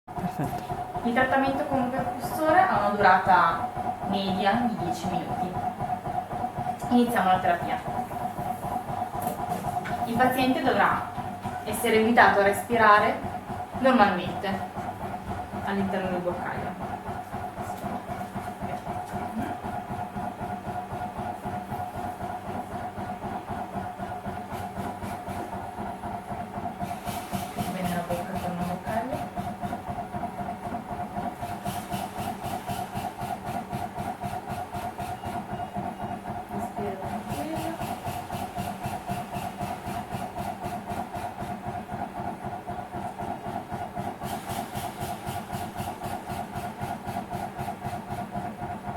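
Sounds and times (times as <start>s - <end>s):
machine pulsing air: 4.2s - 48.9s.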